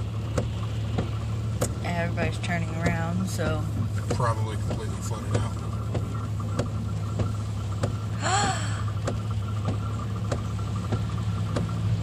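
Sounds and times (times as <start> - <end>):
car engine hum: 0.0 - 12.0
raindrops ticking on car: 0.0 - 12.0.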